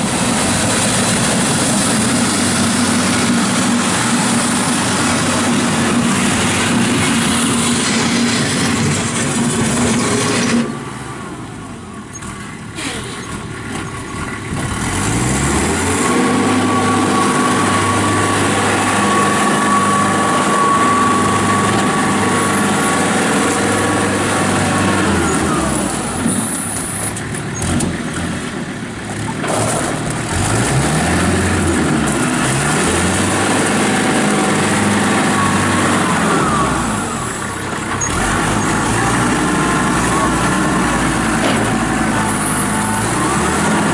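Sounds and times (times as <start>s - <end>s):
tractor diesel engine revving: 0.0s - 43.9s.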